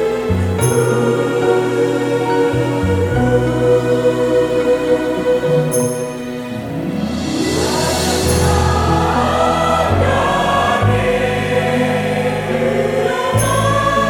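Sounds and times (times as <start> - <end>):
church choir singing a hymn: 0.0 - 14.0.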